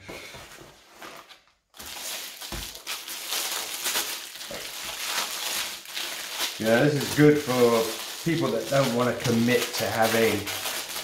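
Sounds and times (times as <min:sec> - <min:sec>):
plastic wrapping crinkling: 0:01.6 - 0:11.0.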